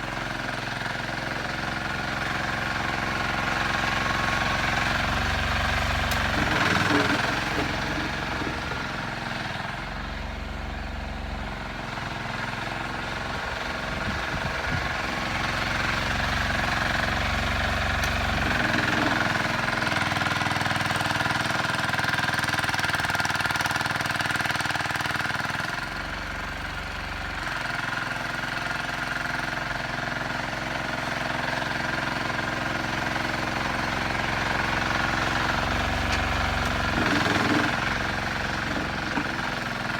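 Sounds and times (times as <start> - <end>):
electric garden tractor whine: 0.0 - 39.9.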